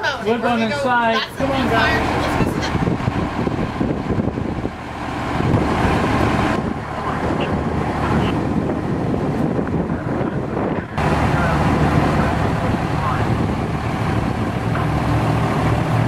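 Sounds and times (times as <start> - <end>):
wind buffeting microphone: 1.2 - 16.0.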